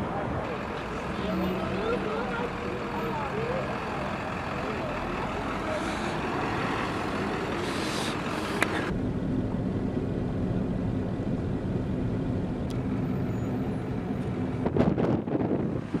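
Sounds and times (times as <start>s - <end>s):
engine and road noise inside van: 0.0s - 16.0s
outdoor traffic noise: 0.0s - 16.0s.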